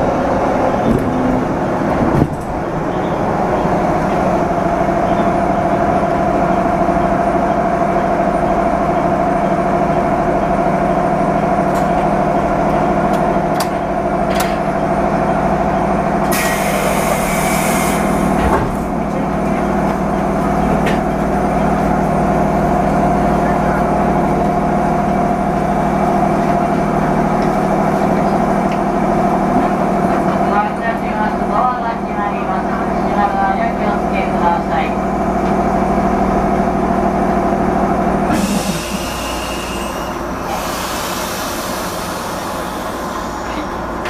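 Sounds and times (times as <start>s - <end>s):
train equipment hum: 0.0s - 44.0s.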